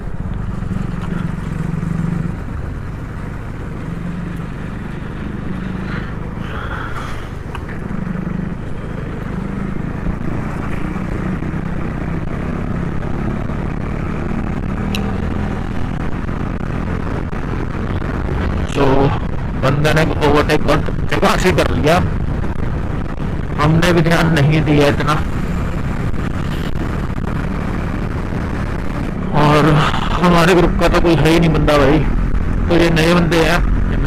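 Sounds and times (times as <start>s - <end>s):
motorcycle engine running: 0.0s - 34.0s
wind rushing over microphone: 0.0s - 34.0s.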